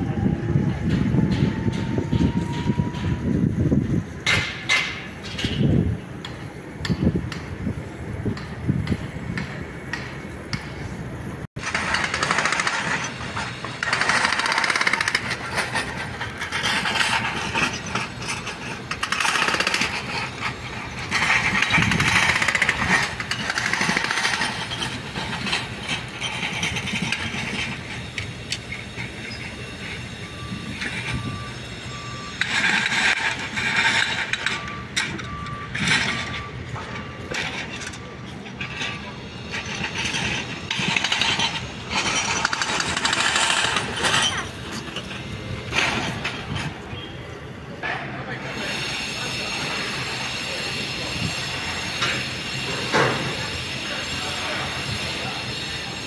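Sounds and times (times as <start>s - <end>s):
construction machinery rattling and clanking: 0.0s - 56.0s.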